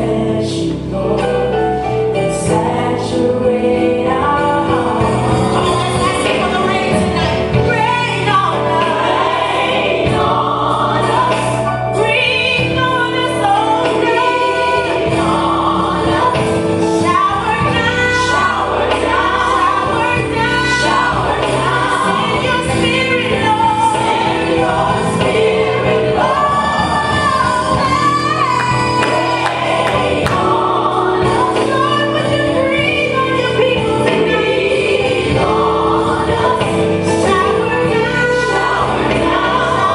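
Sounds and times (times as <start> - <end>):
gospel choir singing: 0.0 - 39.9
instrumental backing: 0.0 - 39.9.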